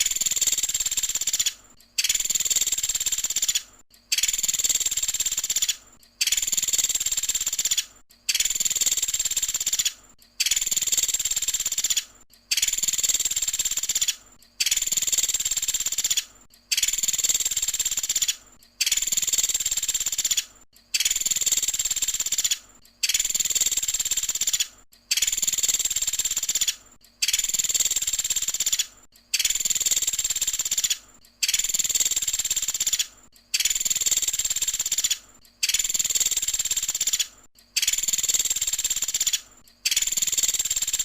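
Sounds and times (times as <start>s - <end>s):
woodpecker chattering call: 0.0s - 41.0s.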